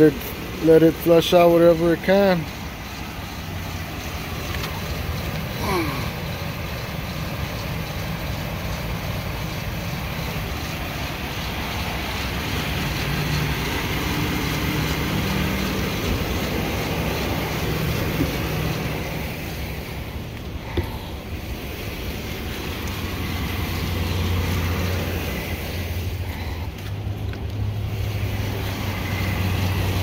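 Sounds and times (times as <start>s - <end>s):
pickup engine idling: 0.0s - 30.0s.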